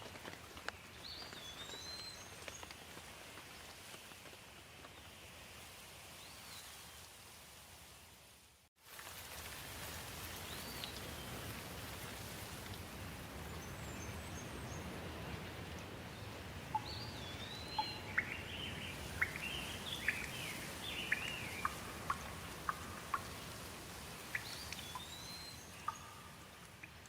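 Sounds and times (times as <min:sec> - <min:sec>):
rain hissing: 0:00.0 - 0:27.0.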